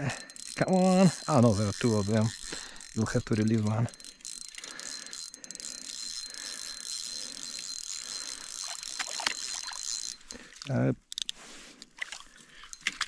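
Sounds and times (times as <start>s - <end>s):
fishing reel whirring and clicking: 0.0s - 13.0s.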